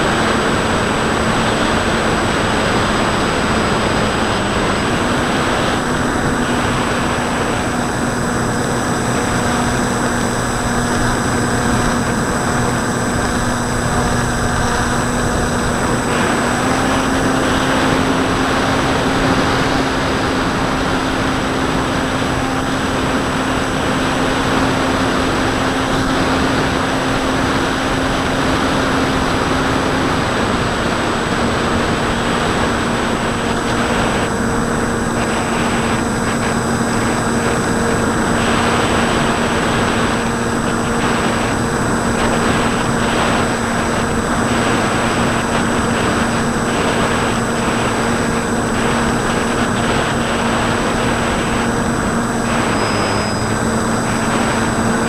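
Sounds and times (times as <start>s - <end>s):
electric motor and propeller humming: 0.0s - 55.0s
wind rushing over microphone: 0.0s - 55.0s.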